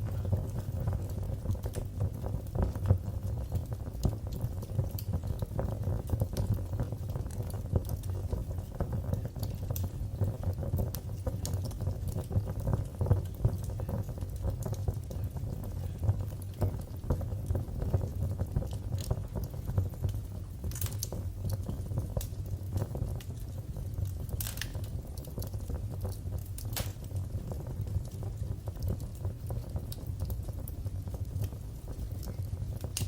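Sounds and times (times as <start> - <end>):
fire crackling in fireplace: 0.0 - 33.0
sharp pops of fire: 0.0 - 33.0.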